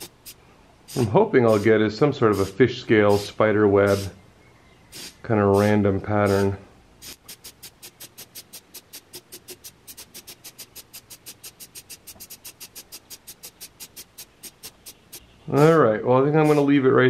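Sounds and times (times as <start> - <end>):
compressed air puffs from nozzle: 0.0 - 4.2, 4.9 - 15.3.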